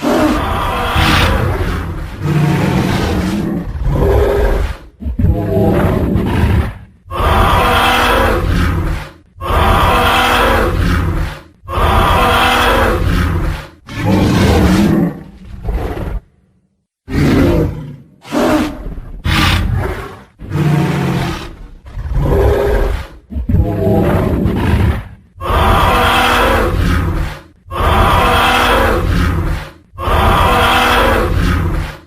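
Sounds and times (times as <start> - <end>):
dinosaur roars: 0.0 - 16.3, 17.1 - 32.0.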